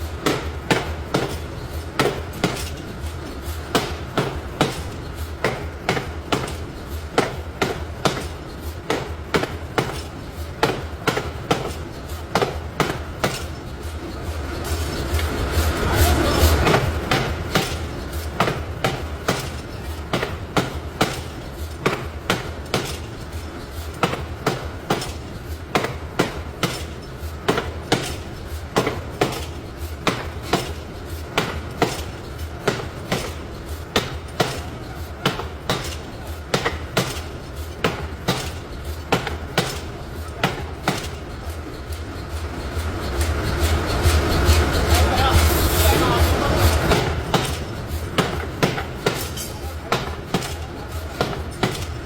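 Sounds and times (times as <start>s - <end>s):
forging hammer blows on metal: 0.0s - 52.0s.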